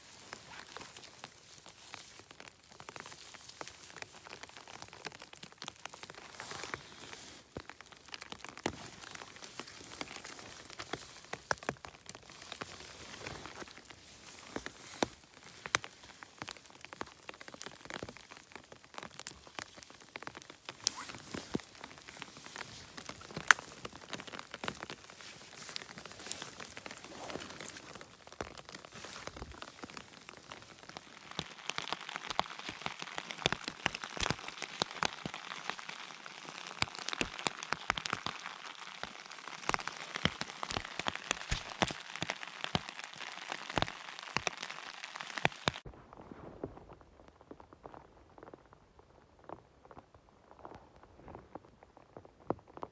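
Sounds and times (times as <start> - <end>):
rain pattering on forest floor: 0.0 - 52.9.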